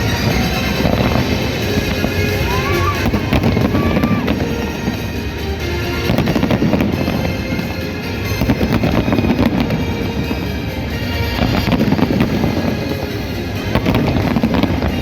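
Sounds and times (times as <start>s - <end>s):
fireworks crackling and bursting: 0.0s - 15.0s
music playing: 0.0s - 15.0s.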